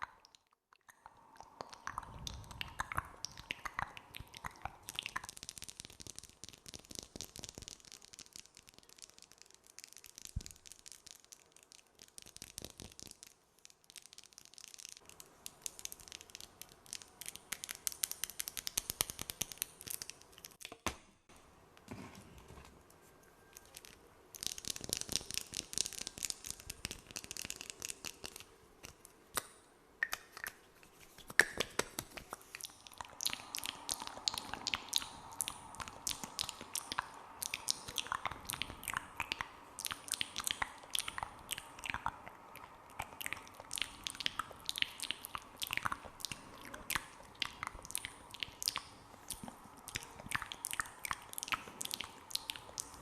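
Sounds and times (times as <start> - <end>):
wet mouth clicks and smacks: 0.0 - 20.8, 23.6 - 53.0.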